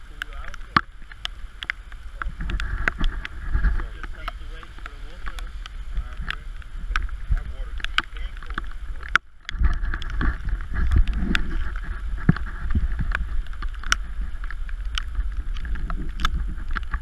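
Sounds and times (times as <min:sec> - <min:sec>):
falling rain: 0:00.0 - 0:17.0
sharp raindrop hits: 0:00.0 - 0:17.0
wind buffeting the microphone: 0:00.0 - 0:17.0.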